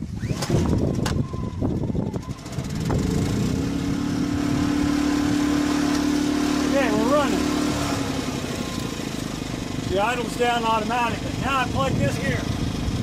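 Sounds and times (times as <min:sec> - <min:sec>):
generator engine starting: 0:00.0 - 0:11.5.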